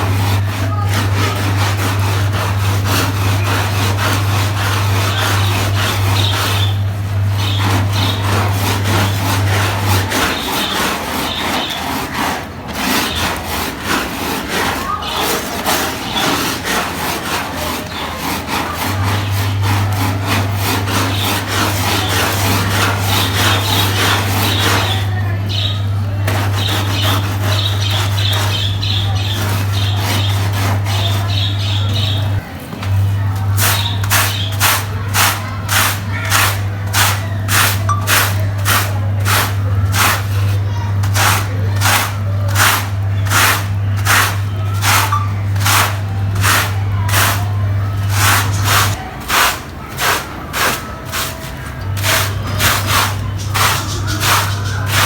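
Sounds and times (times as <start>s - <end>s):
squeaky rubbing of wet carpet: 0.0s - 32.5s, 33.6s - 55.0s
cleaning machine motor hum: 0.0s - 55.0s.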